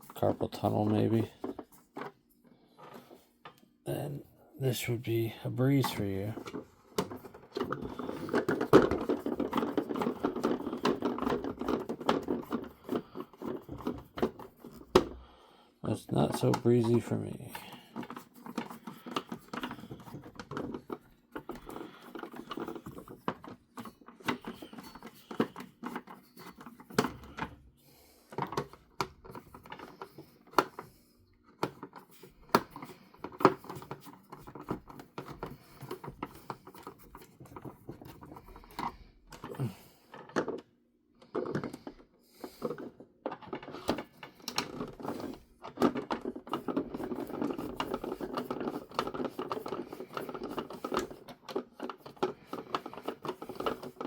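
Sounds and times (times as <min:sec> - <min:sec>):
plastic toy being handled: 0:00.0 - 0:03.7, 0:04.6 - 0:15.2, 0:15.9 - 0:54.0
metal scraping on plastic: 0:00.0 - 0:04.0, 0:04.8 - 0:15.3, 0:15.9 - 0:54.0.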